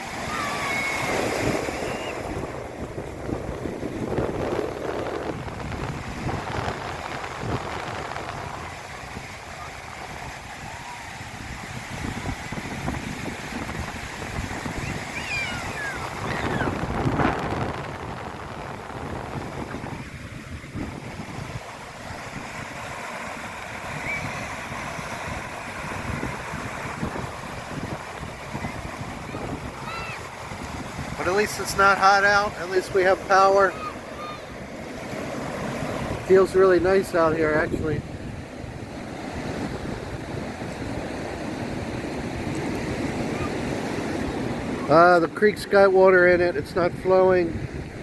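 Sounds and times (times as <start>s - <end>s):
waves breaking on shore: 0.0s - 48.0s
wind buffeting microphone: 0.0s - 48.0s.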